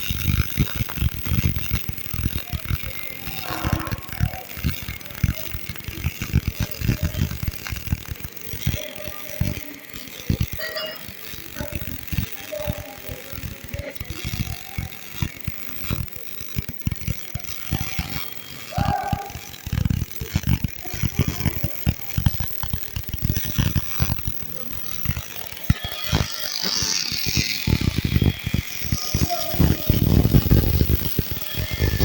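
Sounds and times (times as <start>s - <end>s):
welding arc crackling: 0.0s - 32.0s.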